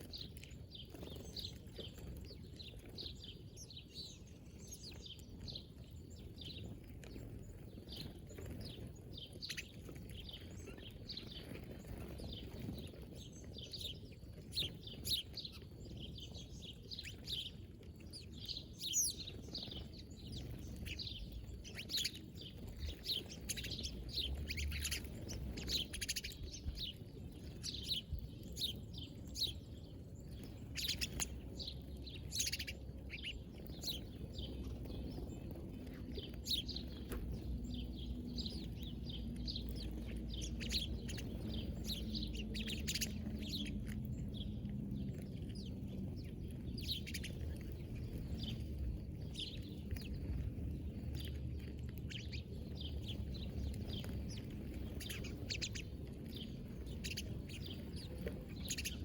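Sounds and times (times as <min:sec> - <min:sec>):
low background rumble: 0:00.0 - 0:59.0
small birds chirping: 0:00.0 - 0:59.0.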